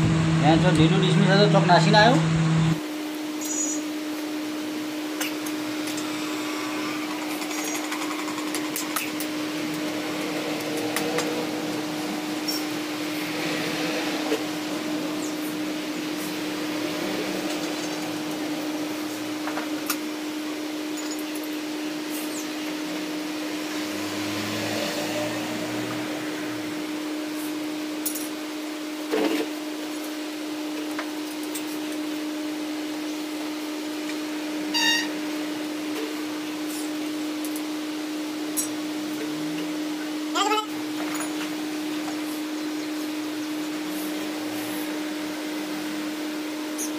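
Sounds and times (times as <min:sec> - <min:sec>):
steady machine hum: 0:00.0 - 0:46.9.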